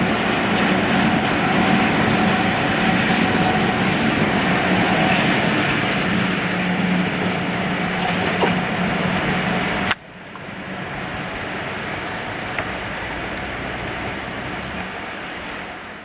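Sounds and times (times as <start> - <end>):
train wheels running: 0.0 - 16.0.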